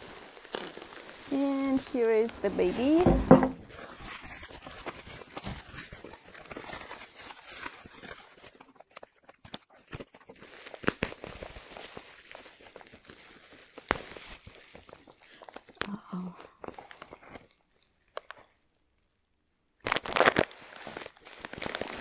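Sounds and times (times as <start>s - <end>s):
plastic packaging rustling: 0.0s - 15.8s, 16.6s - 18.5s, 19.9s - 22.0s.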